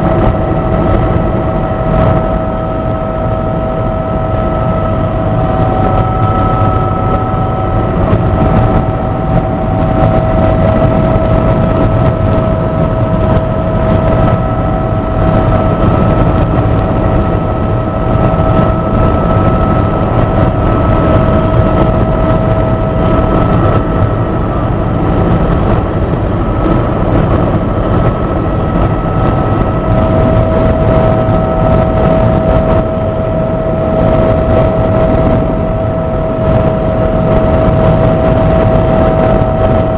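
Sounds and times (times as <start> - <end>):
helicopter rotor and engine noise: 0.0 - 39.9
high whine: 0.0 - 39.9.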